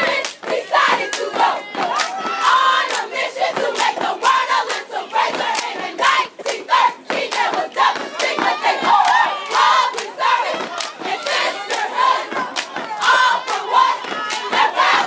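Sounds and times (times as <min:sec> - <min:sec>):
crowd chanting and shouting: 0:00.0 - 0:15.0
hand claps: 0:00.2 - 0:04.0, 0:04.6 - 0:14.6.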